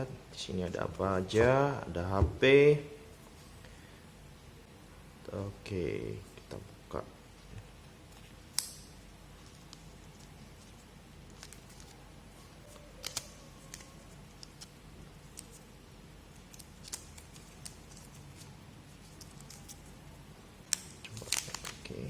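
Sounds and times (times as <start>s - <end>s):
low room hiss: 0.0s - 22.0s.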